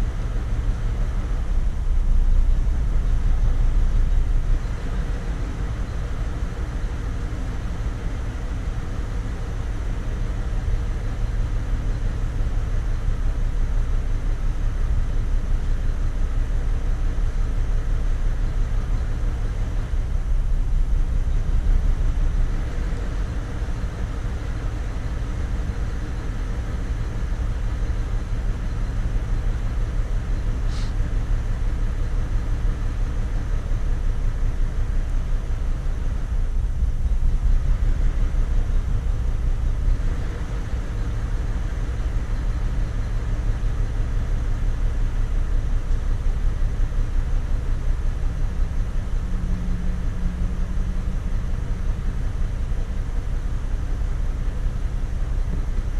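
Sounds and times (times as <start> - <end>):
engine low rumble: 0.0 - 55.9.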